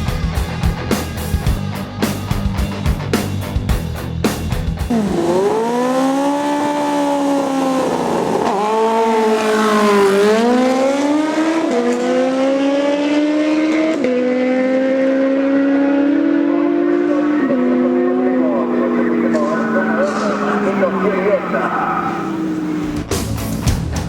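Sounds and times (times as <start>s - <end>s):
motorcycle engine accelerating: 0.0s - 23.6s.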